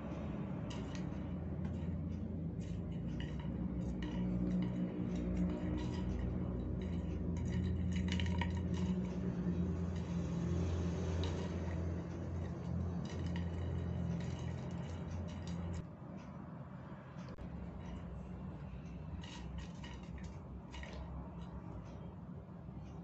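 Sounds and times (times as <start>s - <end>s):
straw clicking on tile floor: 0.0s - 15.9s, 17.3s - 22.1s
low hum: 0.0s - 23.0s.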